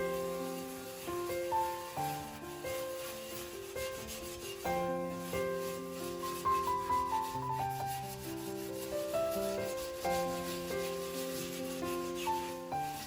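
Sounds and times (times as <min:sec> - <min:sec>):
wire scrubber rubbing glass: 0:00.0 - 0:13.0.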